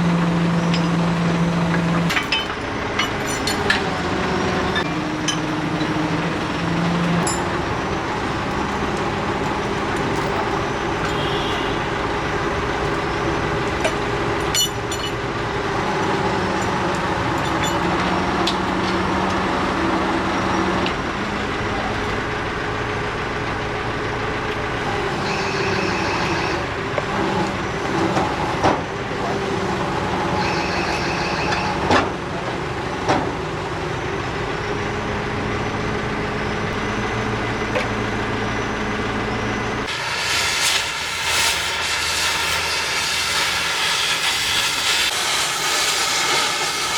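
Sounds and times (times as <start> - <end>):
heavy machine engine running: 0.0 - 46.9.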